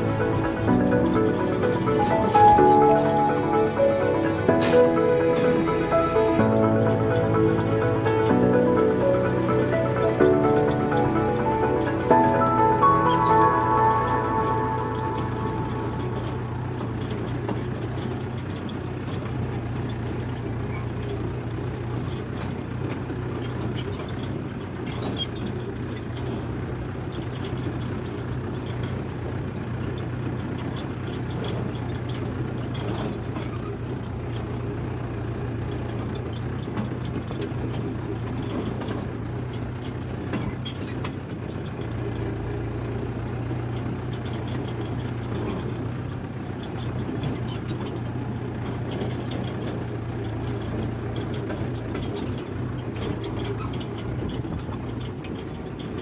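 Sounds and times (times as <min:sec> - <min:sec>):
tractor diesel engine humming: 0:00.0 - 0:56.0.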